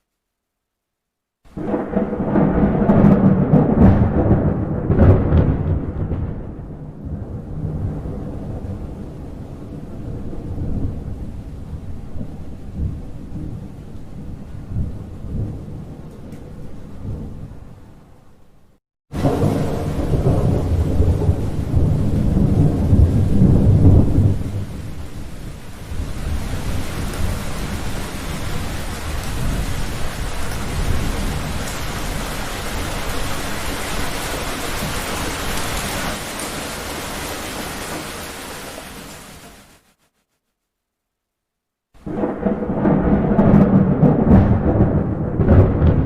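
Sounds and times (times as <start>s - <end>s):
heavy rain: 1.5s - 17.9s, 19.1s - 40.1s, 42.0s - 46.0s
thunder rumbling: 1.5s - 18.1s, 19.1s - 39.5s, 42.0s - 46.0s.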